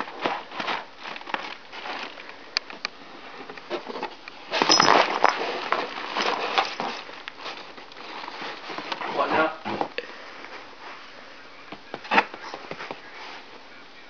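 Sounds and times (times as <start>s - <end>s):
cardboard rustling and scratching: 0.0s - 9.9s, 11.8s - 13.6s.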